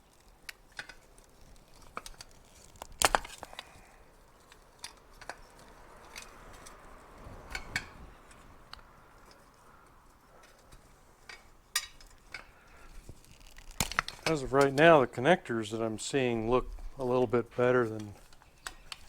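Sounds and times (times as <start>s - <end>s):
hand tools clicking and tapping: 0.5s - 15.0s, 17.9s - 19.0s.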